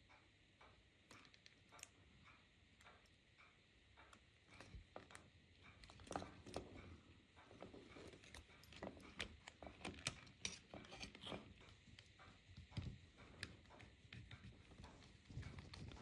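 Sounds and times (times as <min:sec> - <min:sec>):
small parts and tools clicking: 0:00.1 - 0:16.0.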